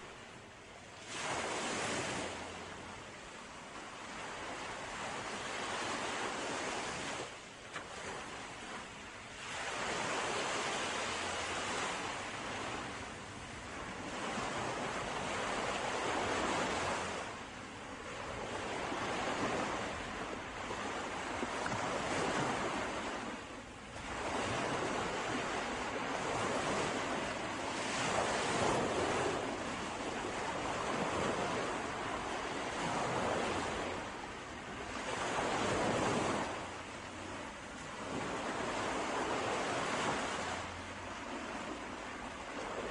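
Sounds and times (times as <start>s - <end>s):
ocean waves breaking: 0.0s - 42.9s.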